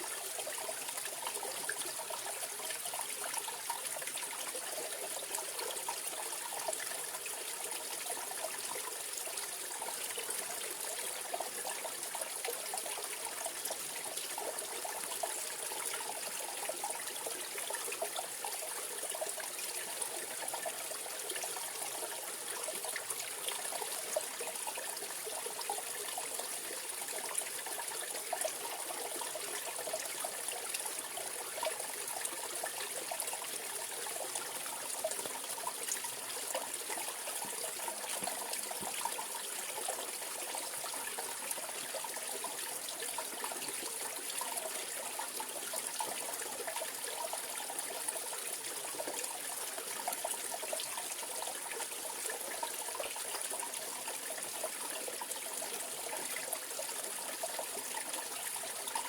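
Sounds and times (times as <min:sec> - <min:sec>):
stream flowing over rocks: 0:09.0 - 0:59.0.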